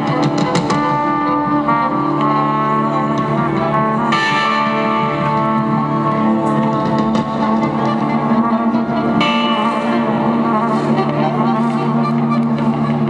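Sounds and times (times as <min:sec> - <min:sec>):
live folk-rock band music: 0:00.0 - 0:13.0.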